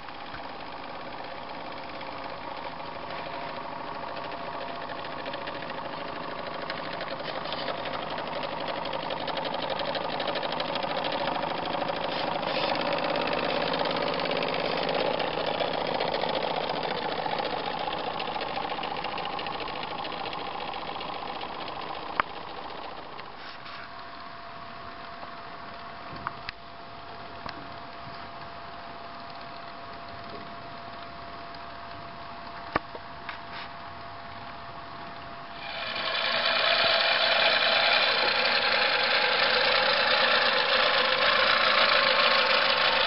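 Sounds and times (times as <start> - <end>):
model boat motor chugging: 0.0 - 23.5, 27.1 - 32.1, 35.5 - 43.0.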